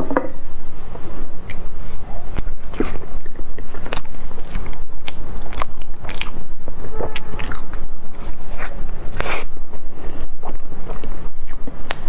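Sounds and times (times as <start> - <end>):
wet chewing with clicks: 1.4 - 12.0.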